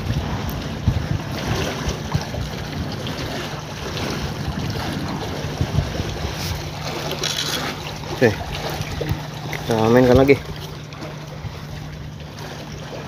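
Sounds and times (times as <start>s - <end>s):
water sloshing against pier: 0.0s - 13.0s
wind buffeting microphone: 0.0s - 13.0s.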